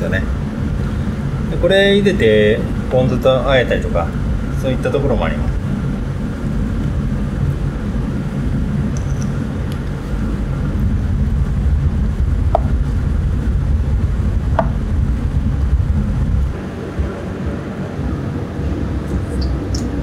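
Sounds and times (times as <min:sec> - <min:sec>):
kitchen ventilation rumble: 0:00.0 - 0:20.0.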